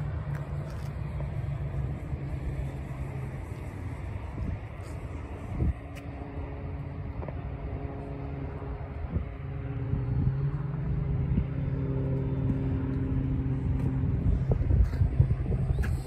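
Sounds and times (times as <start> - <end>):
airplane engine drone: 0.0 - 16.0
wind on microphone: 0.6 - 16.0.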